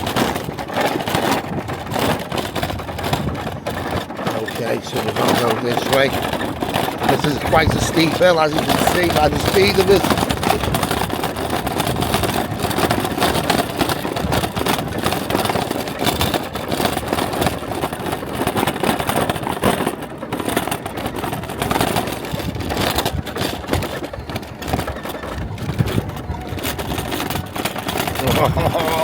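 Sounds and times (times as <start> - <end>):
vehicle rumbling off-road: 0.0 - 29.0
wind buffeting microphone: 0.0 - 29.0.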